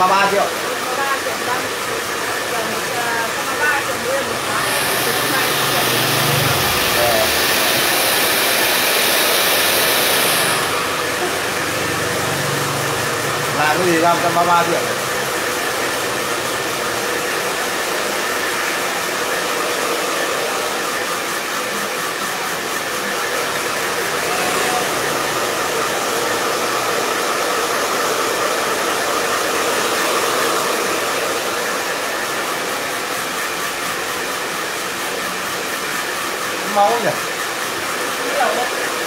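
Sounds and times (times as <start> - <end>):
hair dryer blowing: 0.0 - 39.0.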